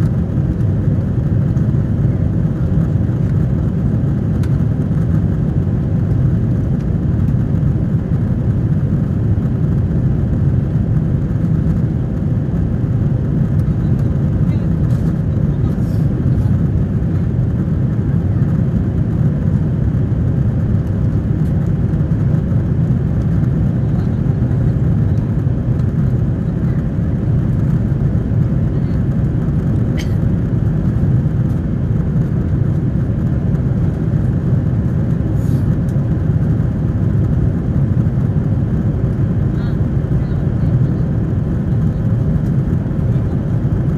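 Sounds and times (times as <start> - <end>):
airliner cabin roar: 0.0 - 43.9.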